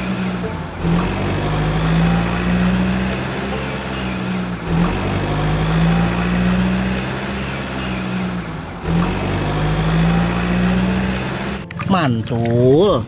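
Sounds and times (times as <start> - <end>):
low engine-like hum: 0.0 - 11.7.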